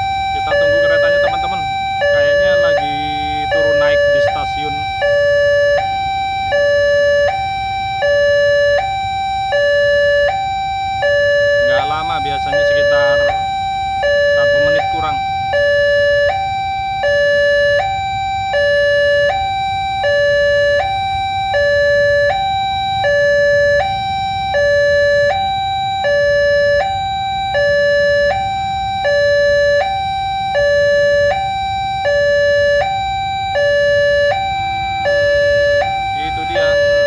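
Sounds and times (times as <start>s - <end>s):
low rumble of traffic: 0.0s - 37.0s
two-tone level-crossing alarm: 0.0s - 37.0s.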